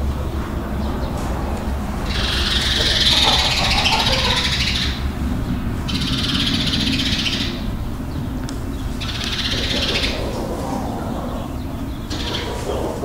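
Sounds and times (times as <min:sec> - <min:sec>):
chickens clucking: 0:00.0 - 0:13.0
steady low rumble: 0:00.0 - 0:13.0.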